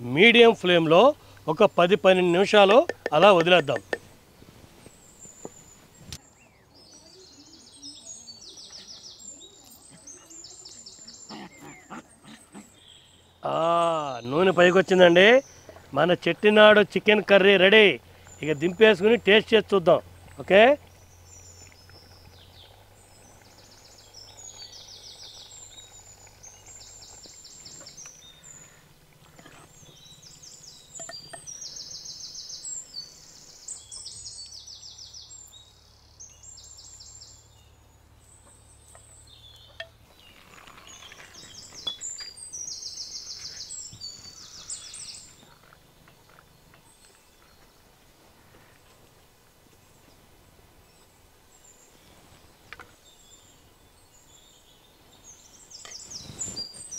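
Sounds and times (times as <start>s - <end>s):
birds singing rapid trills: 4.9s - 48.7s, 50.8s - 56.9s.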